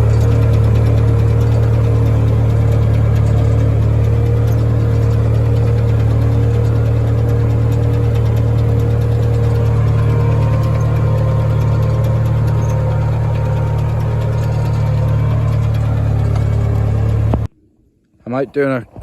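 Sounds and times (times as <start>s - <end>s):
engine running steadily: 0.0s - 17.5s.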